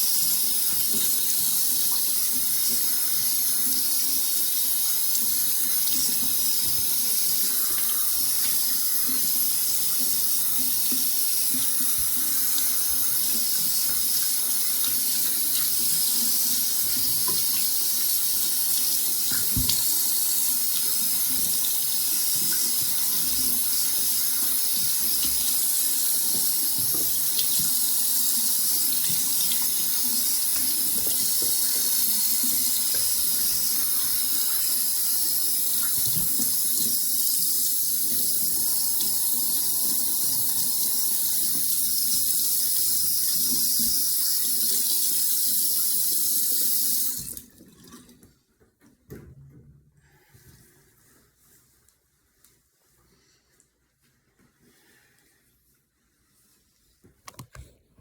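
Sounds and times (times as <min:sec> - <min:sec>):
tap water running: 0:00.0 - 0:48.4.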